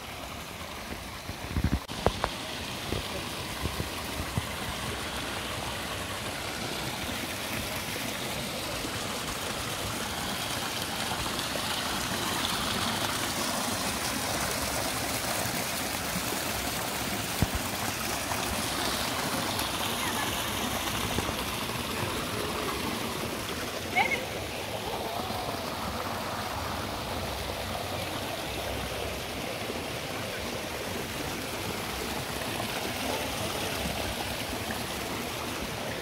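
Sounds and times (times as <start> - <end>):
fountain water splashing: 0.0 - 36.0.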